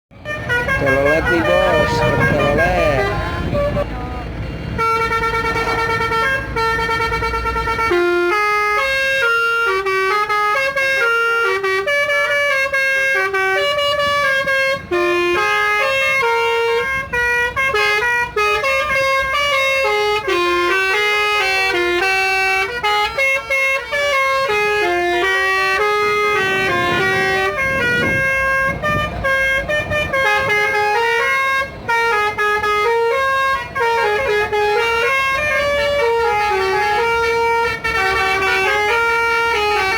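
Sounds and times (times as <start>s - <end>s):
multi-tone air horn playing tune: 0.2s - 39.9s.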